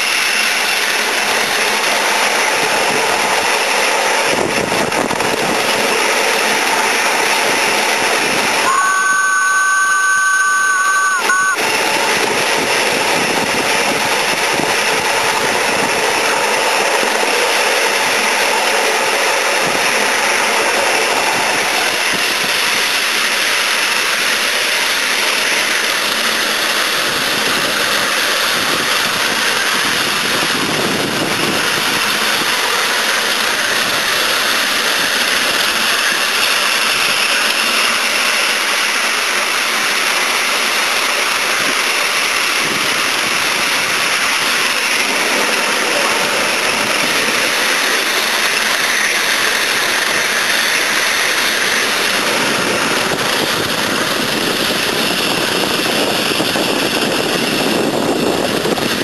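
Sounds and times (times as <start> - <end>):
steam hissing: 0.0 - 59.0.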